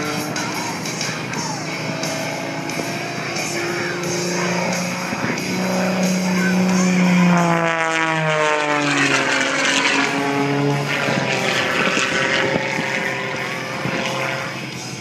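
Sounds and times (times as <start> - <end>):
propeller airplane passing by: 0.0 - 15.0.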